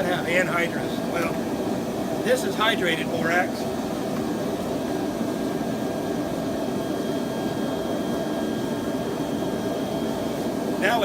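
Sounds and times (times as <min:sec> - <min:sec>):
gas forge burning: 0:00.0 - 0:11.0.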